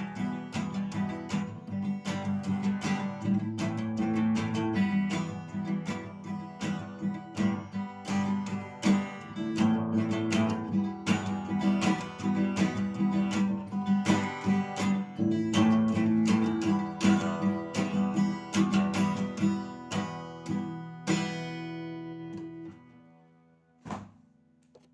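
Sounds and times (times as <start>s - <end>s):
acoustic guitar strumming: 0.0s - 23.6s.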